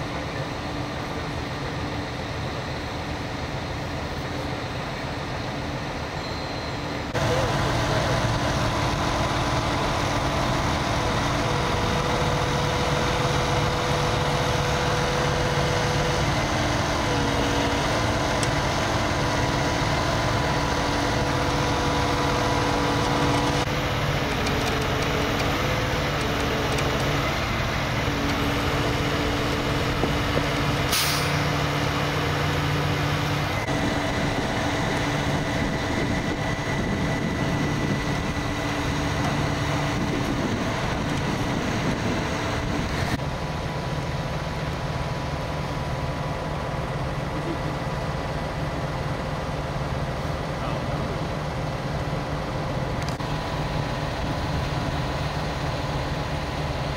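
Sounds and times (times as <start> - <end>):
tow truck engine droning: 0.0 - 56.9.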